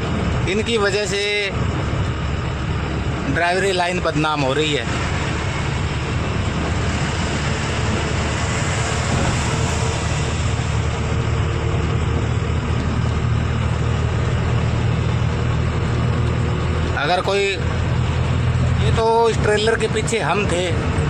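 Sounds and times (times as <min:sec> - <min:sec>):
truck engine running: 0:00.0 - 0:21.0
tyre and road noise: 0:00.0 - 0:21.0.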